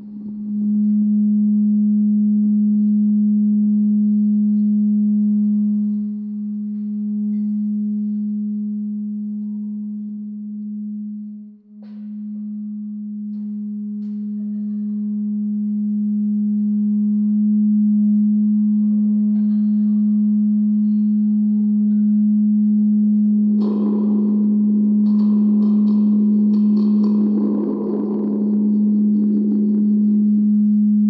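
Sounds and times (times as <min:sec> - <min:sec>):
low drone tone: 0:00.0 - 0:31.0.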